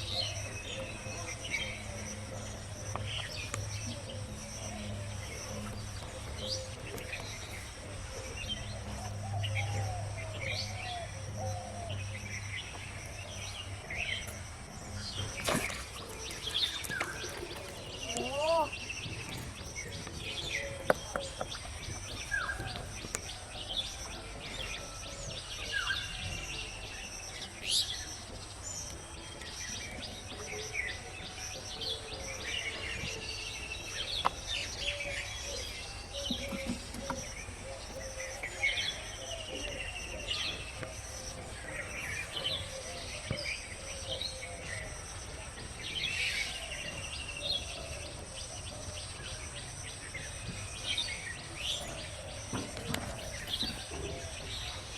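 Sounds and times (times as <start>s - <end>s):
birds chirping and whistling: 0.0s - 54.9s.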